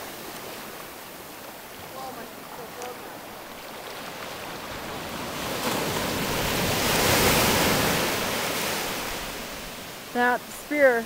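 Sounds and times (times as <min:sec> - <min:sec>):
ocean wave breaking: 0:00.0 - 0:11.0.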